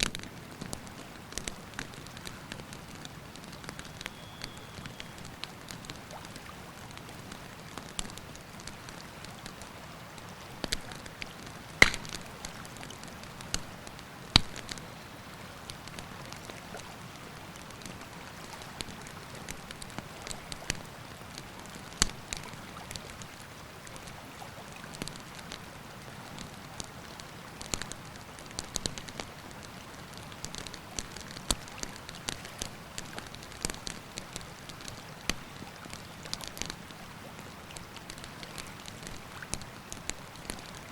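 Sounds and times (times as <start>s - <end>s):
campfire crackling and popping: 0.0s - 14.9s, 15.6s - 40.9s.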